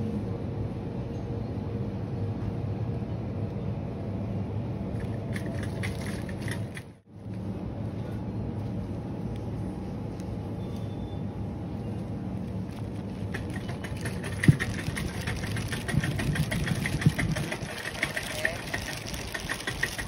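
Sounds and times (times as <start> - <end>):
refrigeration and ventilation hum: 0.0 - 20.0.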